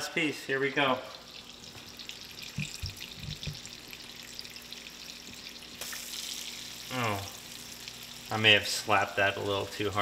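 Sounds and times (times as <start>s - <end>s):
fish sizzling in oil: 1.1s - 10.0s.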